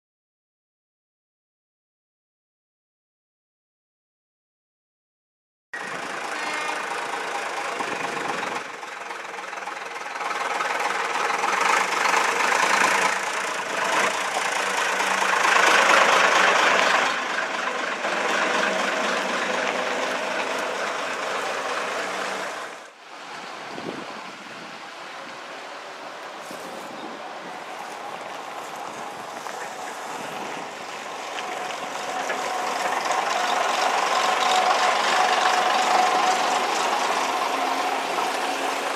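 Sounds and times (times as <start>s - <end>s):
bus diesel engine passing: 5.8s - 38.9s
bus engine pulling away: 5.8s - 38.9s.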